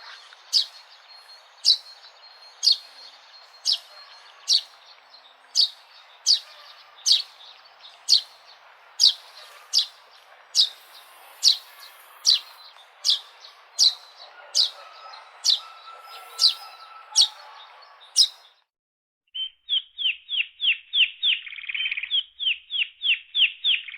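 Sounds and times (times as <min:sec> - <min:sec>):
sparrow chirping: 0:00.0 - 0:18.6, 0:19.4 - 0:23.9
faint background birds: 0:00.0 - 0:18.7, 0:19.3 - 0:23.9.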